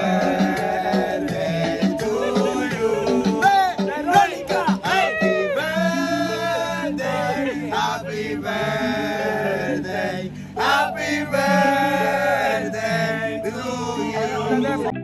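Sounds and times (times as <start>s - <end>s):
men singing and chanting: 0.0s - 15.0s
music track with bass line: 0.0s - 15.0s.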